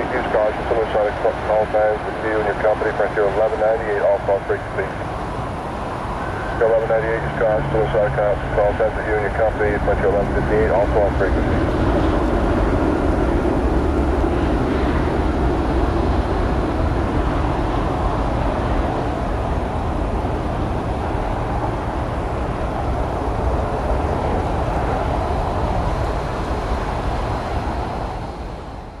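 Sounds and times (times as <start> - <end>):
jet engine rumble and rush: 0.0 - 29.0.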